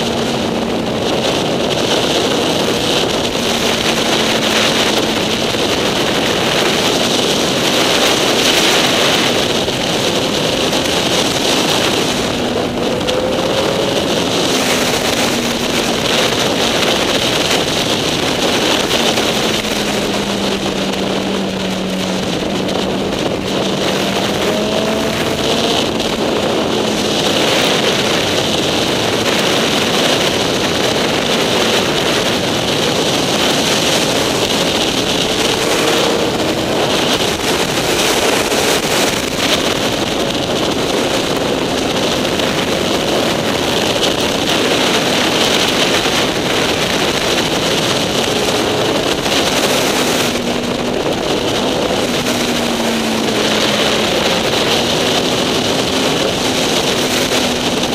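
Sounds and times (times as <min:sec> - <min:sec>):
motorcycle engine: 0:00.0 - 0:57.9
wind rushing over camera: 0:00.0 - 0:57.9.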